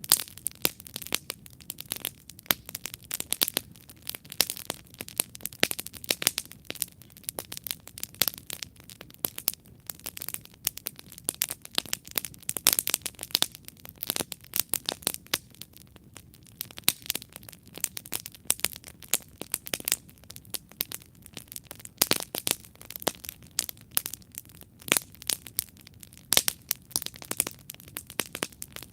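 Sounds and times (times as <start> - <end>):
campfire crackling: 0.0 - 28.9.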